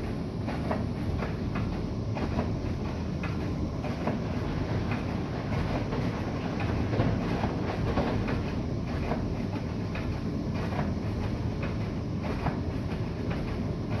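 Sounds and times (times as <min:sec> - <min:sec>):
washing machine knocks and clicks: 0:00.0 - 0:14.0
washing machine rumbling: 0:00.0 - 0:14.0.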